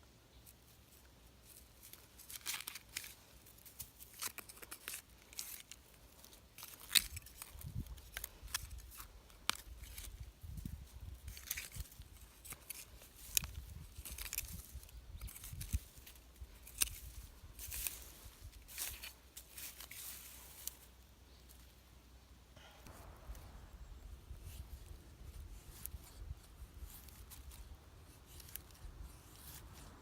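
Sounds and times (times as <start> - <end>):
rustling and scraping dry material: 0.0 - 21.9, 23.9 - 30.0.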